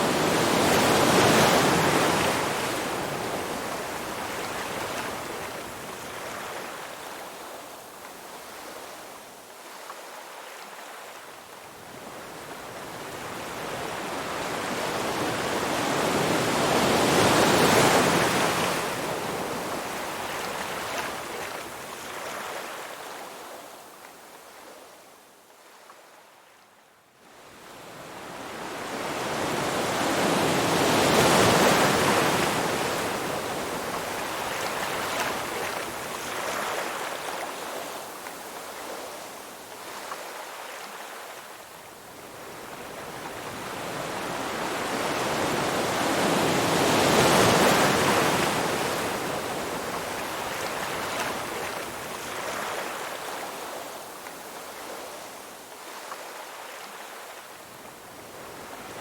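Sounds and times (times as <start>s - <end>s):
ocean surf waves: 0.0s - 7.2s, 12.0s - 22.8s, 27.7s - 59.0s.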